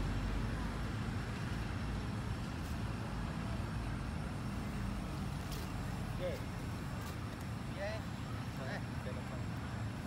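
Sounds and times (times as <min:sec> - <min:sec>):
low rumbling background noise: 0:00.0 - 0:10.0.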